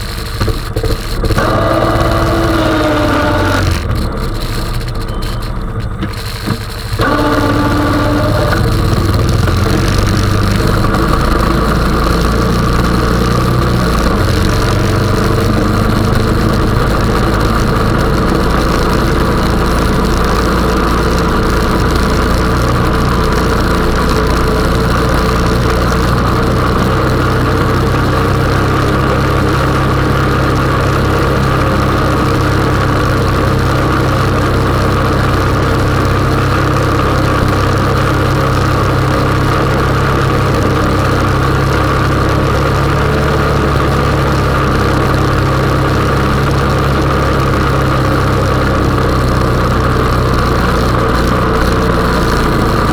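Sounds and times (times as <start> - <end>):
atv engine running: 0.0 - 52.9.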